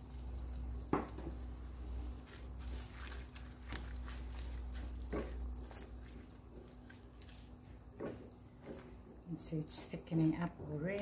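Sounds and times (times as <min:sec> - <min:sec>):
sauce simmering with pops: 0:00.0 - 0:09.2
low steady hum: 0:00.0 - 0:11.0.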